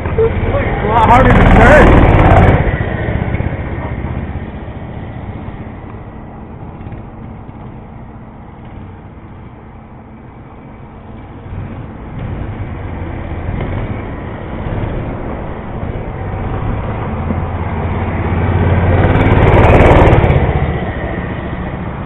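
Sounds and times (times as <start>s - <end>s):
mini bike engine passing: 0.0s - 9.6s, 11.0s - 22.0s.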